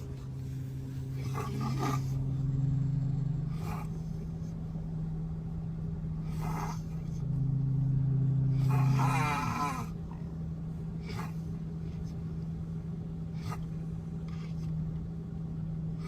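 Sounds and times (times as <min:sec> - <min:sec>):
car low drone: 0:00.0 - 0:16.0.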